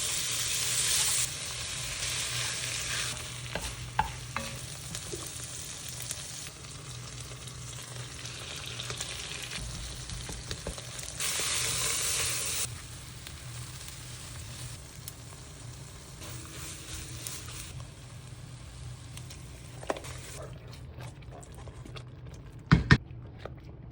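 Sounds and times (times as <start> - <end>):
food sizzling in a pan: 0.0 - 20.4.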